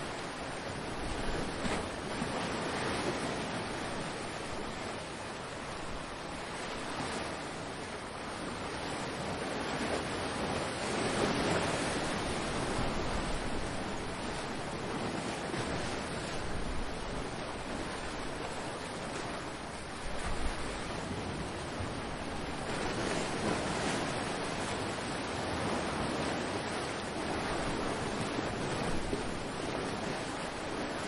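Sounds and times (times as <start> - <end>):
waves breaking: 0.0 - 31.0.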